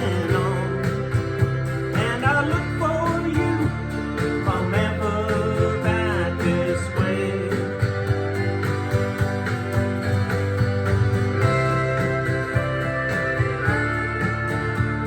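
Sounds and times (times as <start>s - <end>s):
acoustic guitar strumming folk song: 0.0s - 15.0s.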